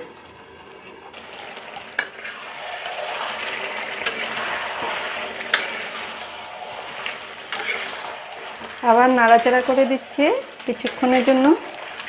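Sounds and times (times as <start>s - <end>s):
meat sizzling in a pan: 0.4s - 12.0s
spatula scraping through meat: 1.2s - 12.0s.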